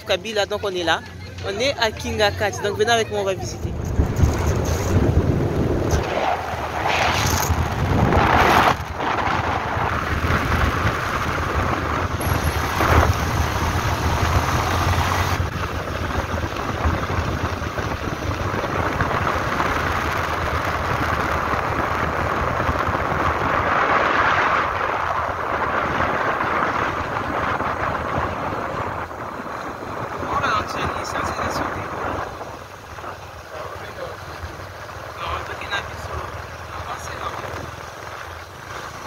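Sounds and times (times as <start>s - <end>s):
vehicle engine running: 0.0s - 39.0s
wind rushing over microphone: 0.0s - 39.0s.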